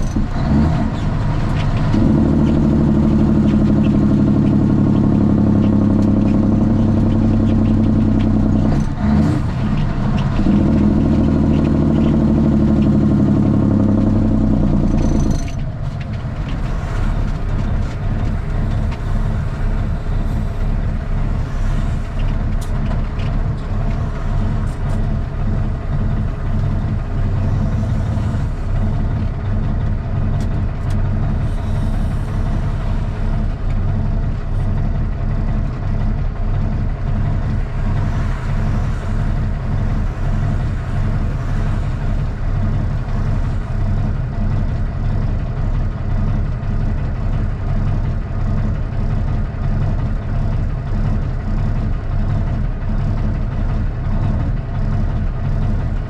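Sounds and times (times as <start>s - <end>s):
diesel truck engine droning: 0.0s - 56.0s.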